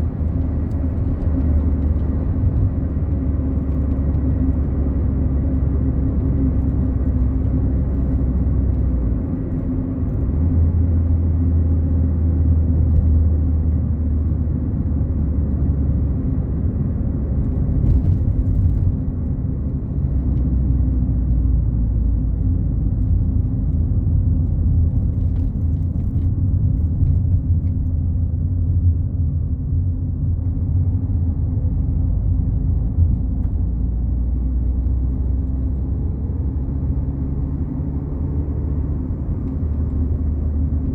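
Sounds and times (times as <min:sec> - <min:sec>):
car engine drone: 0:00.0 - 0:40.9.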